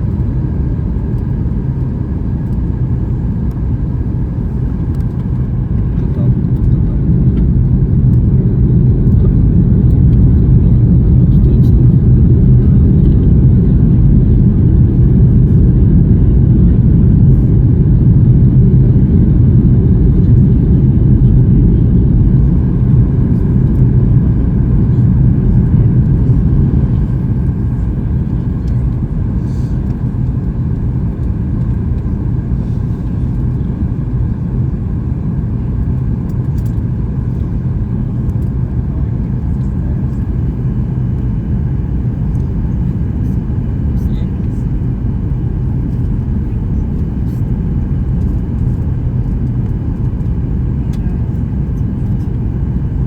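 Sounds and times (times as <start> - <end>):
airplane cabin rumble: 0.0 - 53.0.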